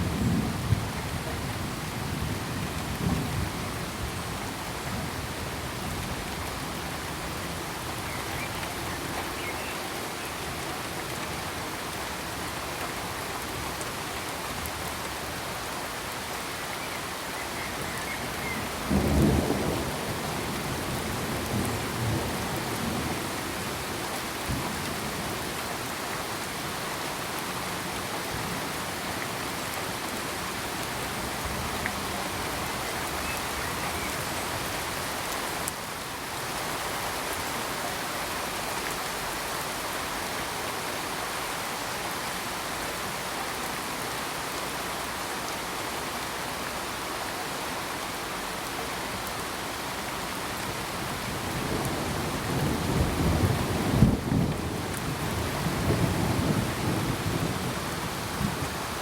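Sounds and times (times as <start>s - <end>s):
heavy rainfall: 0.0s - 59.0s.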